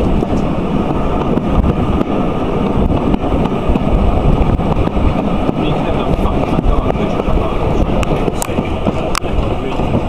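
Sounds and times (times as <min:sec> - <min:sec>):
train carriage rumbling on track: 0:00.0 - 0:10.0
wind buffeting microphone: 0:00.0 - 0:10.0.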